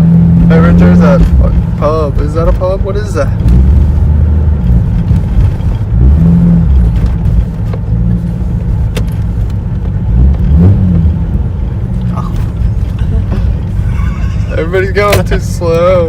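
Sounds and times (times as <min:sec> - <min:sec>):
car engine with loud exhaust: 0:00.0 - 0:16.0.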